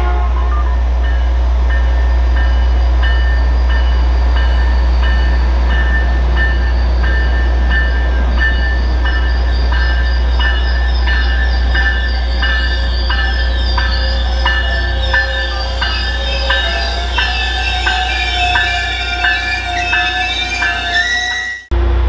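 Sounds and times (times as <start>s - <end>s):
train bell ringing: 0.0s - 21.7s
locomotive engine rumble: 0.0s - 22.0s.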